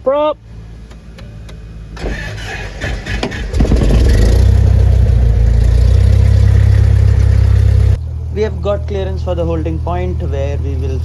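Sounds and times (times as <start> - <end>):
aircraft propeller engine starting: 1.5 - 11.0.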